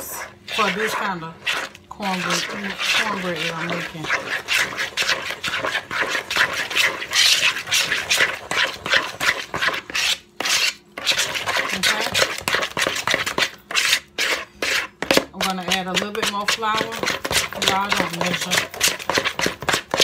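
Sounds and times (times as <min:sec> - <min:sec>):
spoon stirring thick batter: 0:00.0 - 0:20.0.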